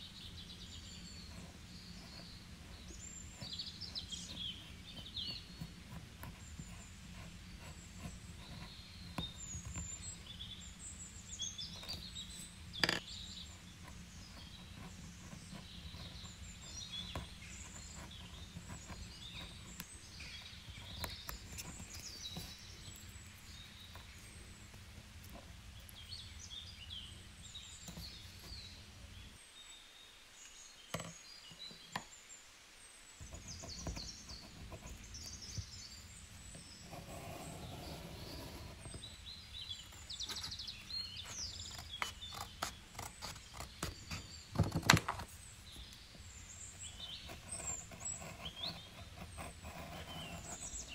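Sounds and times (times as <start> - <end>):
birds chirping and singing: 0.0 - 29.9, 33.2 - 50.9.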